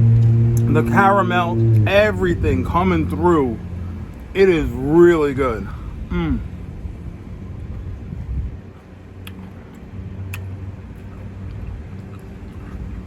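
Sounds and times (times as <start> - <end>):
vehicle idling hum: 0.0 - 13.0.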